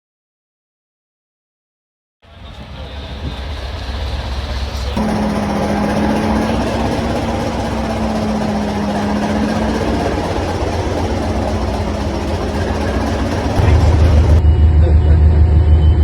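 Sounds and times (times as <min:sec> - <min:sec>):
diesel train engine running: 0:02.2 - 0:16.0.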